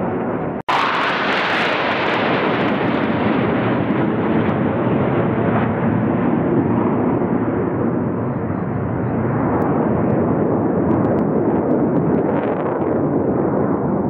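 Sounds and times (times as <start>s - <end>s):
jet aircraft flying overhead: 0.0s - 14.0s.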